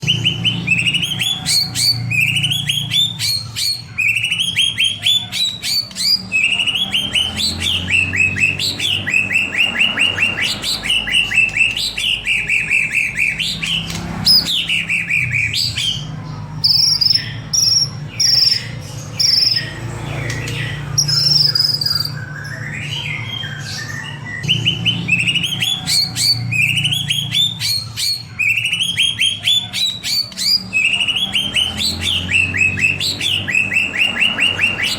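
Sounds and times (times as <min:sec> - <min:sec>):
bird chirping rapidly: 0:00.0 - 0:34.9
high bird whistles: 0:00.0 - 0:34.9.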